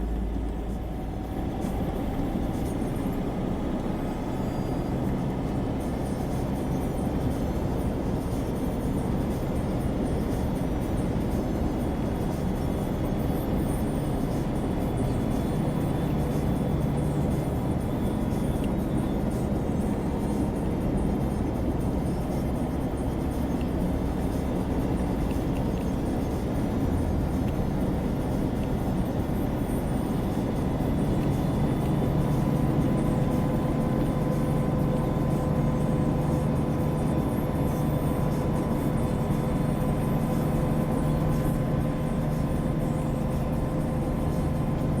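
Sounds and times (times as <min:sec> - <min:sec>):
vehicle engine rumble: 0:00.0 - 0:45.0.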